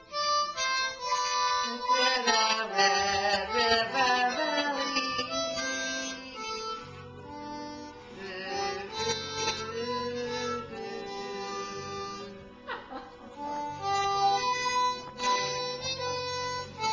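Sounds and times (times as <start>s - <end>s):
harmonica playing: 0.0s - 16.9s.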